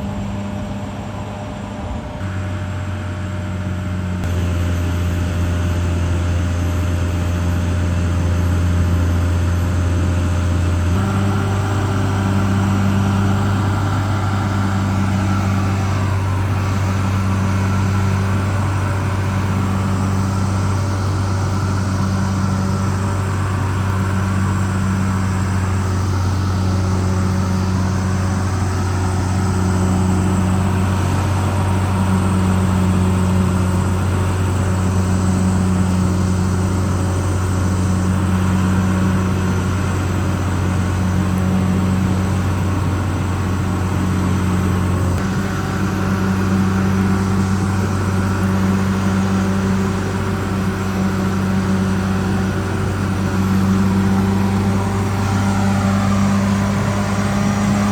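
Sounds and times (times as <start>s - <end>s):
bulldozer diesel engine droning: 0.0s - 57.9s.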